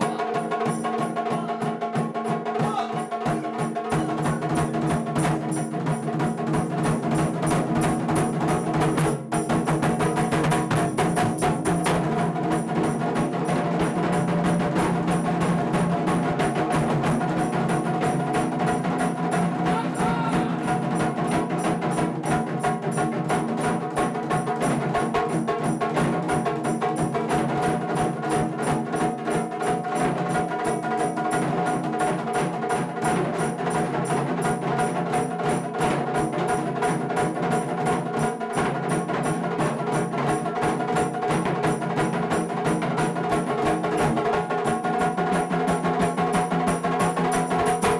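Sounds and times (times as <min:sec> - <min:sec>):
taiko drums ensemble: 0:00.0 - 0:47.9.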